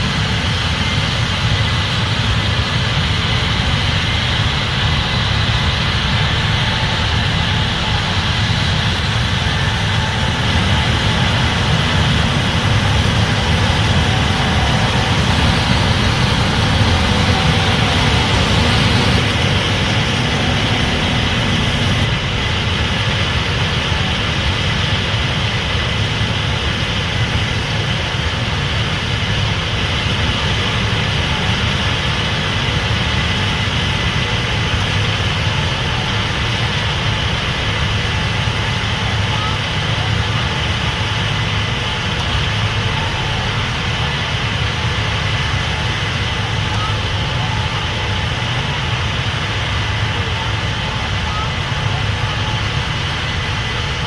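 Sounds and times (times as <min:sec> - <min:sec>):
combine harvester drone: 0:00.0 - 0:54.0
faint high whine: 0:00.0 - 0:54.0.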